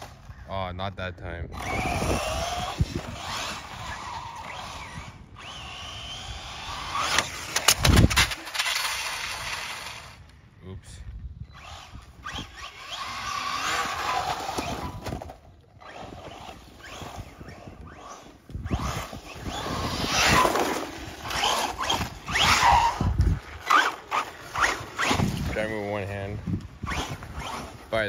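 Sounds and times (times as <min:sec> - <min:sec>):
electric motor whining: 0:01.5 - 0:10.3, 0:11.4 - 0:28.0.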